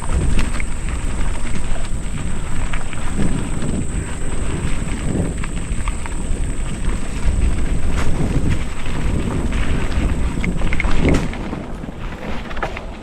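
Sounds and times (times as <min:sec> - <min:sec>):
bike clicks and rattles: 0:00.0 - 0:13.0
tyres rumbling on dirt trail: 0:00.0 - 0:13.0
wind buffeting microphone: 0:00.0 - 0:13.0.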